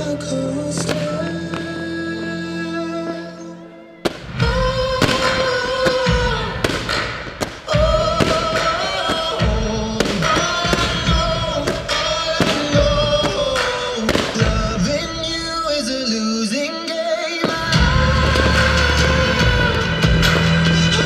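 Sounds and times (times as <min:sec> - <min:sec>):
fireworks bursting: 0:00.0 - 0:03.2, 0:04.0 - 0:21.0
loud show music: 0:00.0 - 0:21.0.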